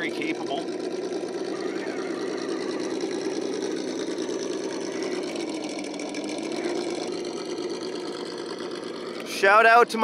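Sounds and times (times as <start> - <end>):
electric motor and gears whirring: 0.0 - 10.0
simulated engine sound: 0.0 - 10.0.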